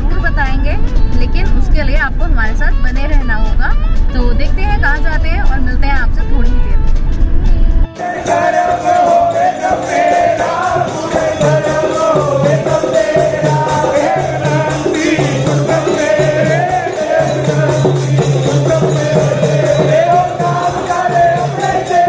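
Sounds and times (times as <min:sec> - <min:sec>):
jingling percussion beat: 0:00.1 - 0:22.0.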